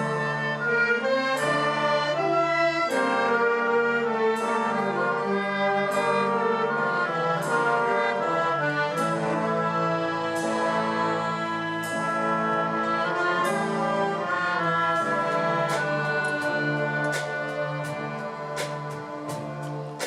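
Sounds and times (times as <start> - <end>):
brass band chords: 0.0 - 20.0.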